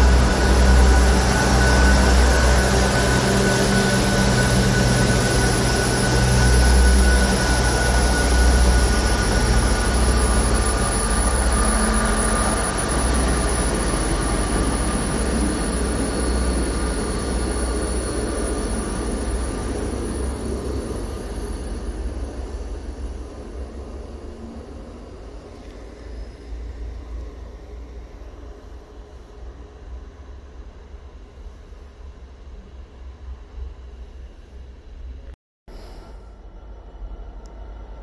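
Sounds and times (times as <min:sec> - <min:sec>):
diesel train engine drone: 0:00.0 - 0:35.2, 0:35.8 - 0:38.0
train wheel rumble: 0:00.0 - 0:35.2.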